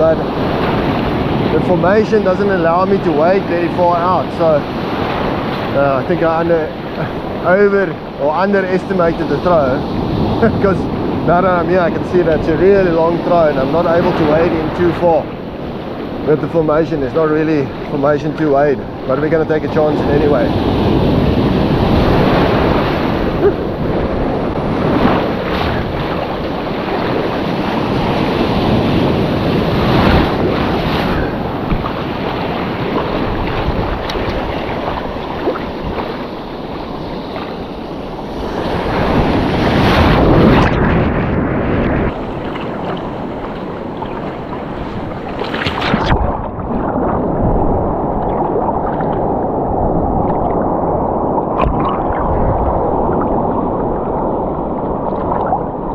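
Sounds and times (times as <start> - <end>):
surf breaking on shore: 0.0 - 55.9
wind buffeting microphone: 0.0 - 55.9.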